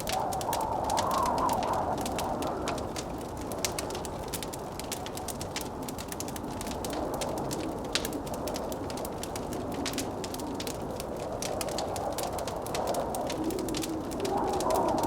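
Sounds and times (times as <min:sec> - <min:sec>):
blizzard wind whooshing: 0:00.0 - 0:15.0
wood fire crackling: 0:00.0 - 0:15.0.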